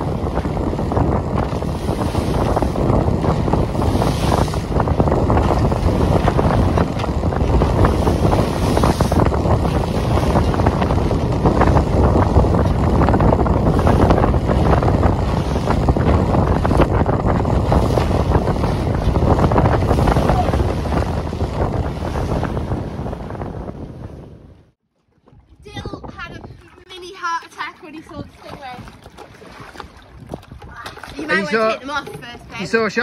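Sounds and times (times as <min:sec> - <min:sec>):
waves washing: 0:00.0 - 0:33.0
wind buffeting microphone: 0:00.0 - 0:33.0.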